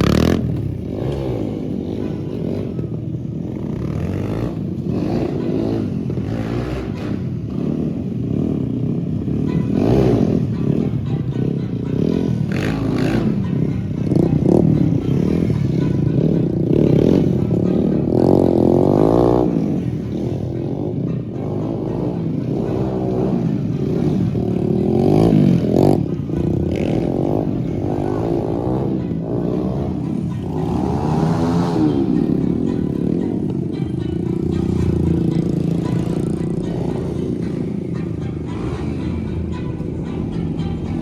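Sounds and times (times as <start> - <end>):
engines revving: 0.0 - 41.0.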